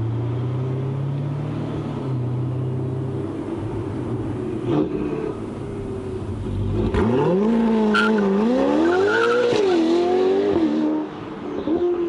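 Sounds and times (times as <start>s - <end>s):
sports car accelerating hard: 0.2s - 12.0s.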